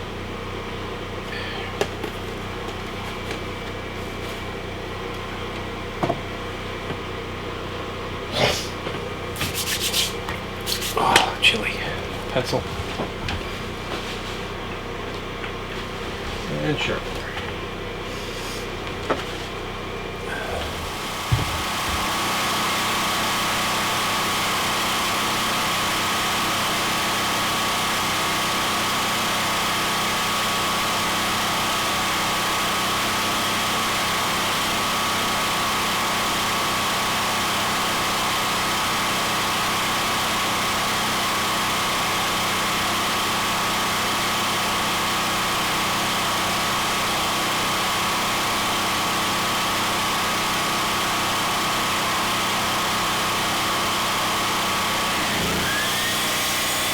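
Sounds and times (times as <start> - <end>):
motor humming with high whine: 0.0 - 56.9.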